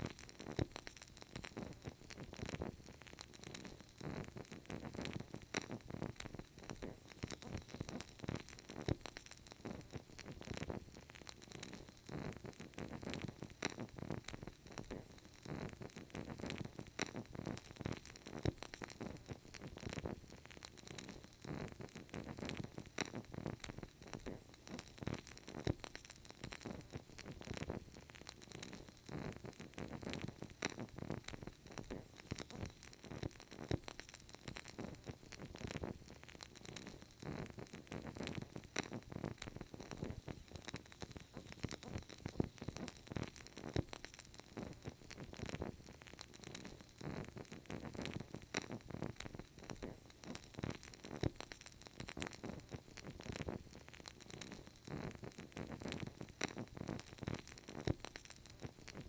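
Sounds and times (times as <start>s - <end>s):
candle crackling: 0.0s - 59.0s.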